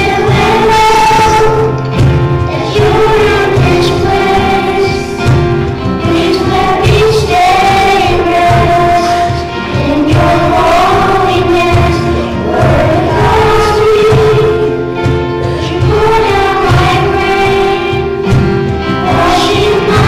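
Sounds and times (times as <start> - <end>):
choir singing a hymn: 0.0 - 20.0
instrumental accompaniment: 0.0 - 20.0.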